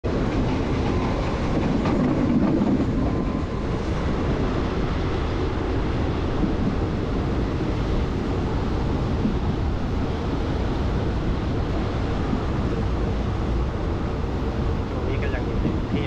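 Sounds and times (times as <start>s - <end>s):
train wheels rumbling on rails: 0.1s - 16.0s.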